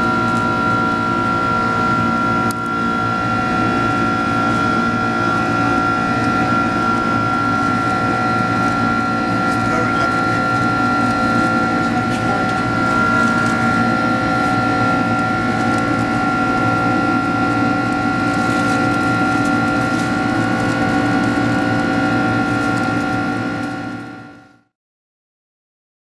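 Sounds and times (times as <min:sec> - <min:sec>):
jet engine cabin rush: 0:00.0 - 0:23.9
high engine whine: 0:00.0 - 0:24.7.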